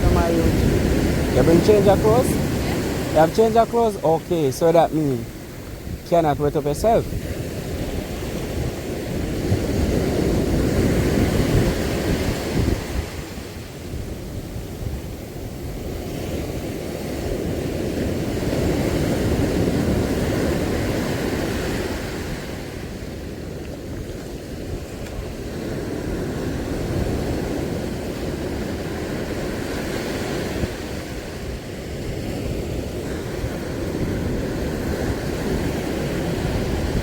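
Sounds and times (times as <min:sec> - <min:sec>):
sea surf rushing: 0:00.0 - 0:37.0
wind: 0:00.0 - 0:37.0.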